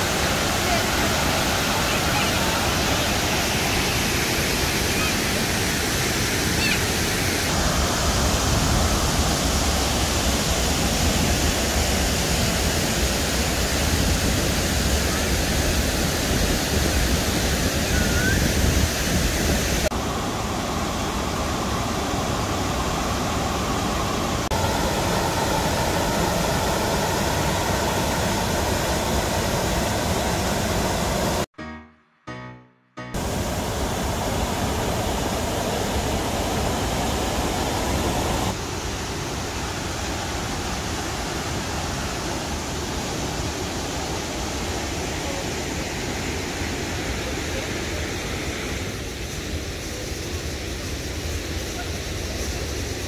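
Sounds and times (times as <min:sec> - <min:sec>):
waterfall rushing: 0:00.0 - 0:31.5, 0:33.2 - 0:53.0.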